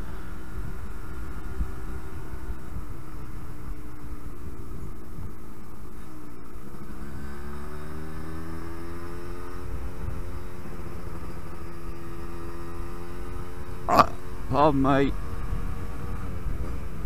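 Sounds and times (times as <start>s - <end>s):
two-stroke motorcycle engine running: 0.0s - 17.0s.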